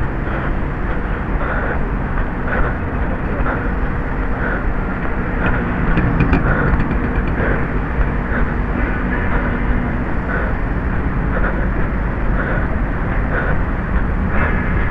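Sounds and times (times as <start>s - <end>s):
low traffic rumble: 0.0s - 14.9s.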